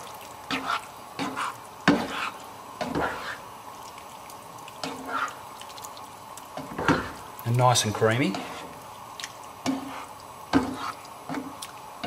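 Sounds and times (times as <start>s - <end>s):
wet stirring strokes in pan: 0.0s - 12.0s.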